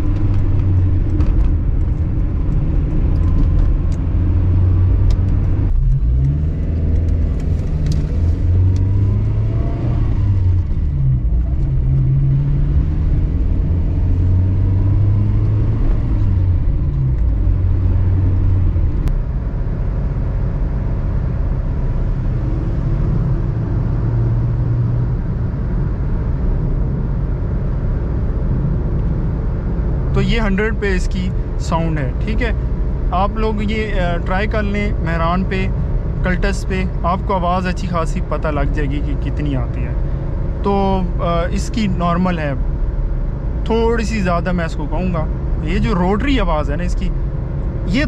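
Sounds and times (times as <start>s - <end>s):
car engine drone: 0.0s - 48.0s
tyre and road noise: 0.0s - 48.0s.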